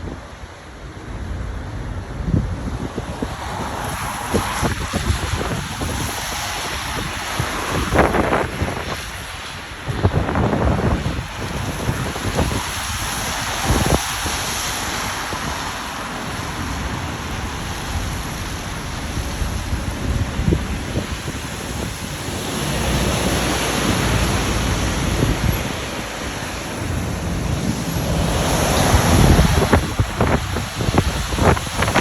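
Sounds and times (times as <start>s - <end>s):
storm wind buffeting microphone: 0.0s - 32.0s.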